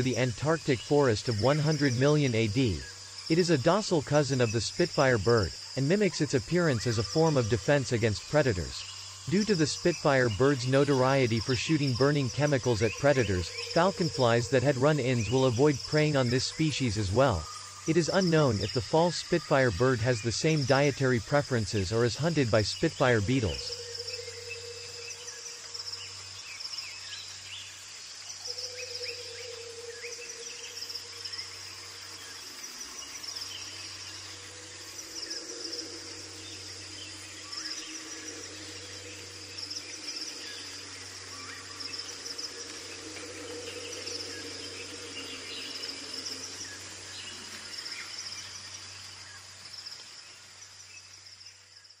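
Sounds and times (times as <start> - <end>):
bird chirps: 0.0 - 52.0
insects trilling: 0.0 - 52.0.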